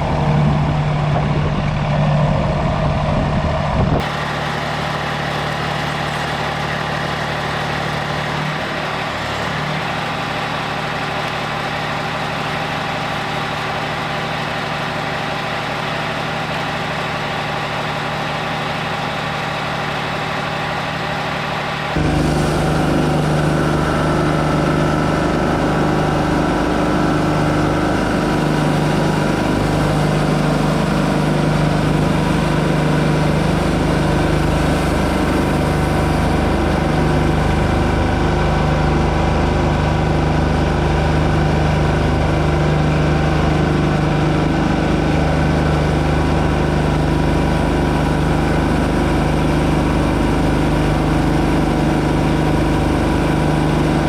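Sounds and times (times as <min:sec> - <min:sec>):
bandsaw mill engine running: 0:00.0 - 0:54.0.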